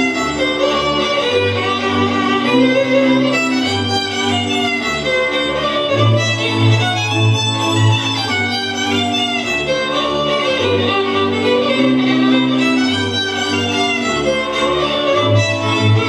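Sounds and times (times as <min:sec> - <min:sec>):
fiddle melody: 0:00.0 - 0:16.0.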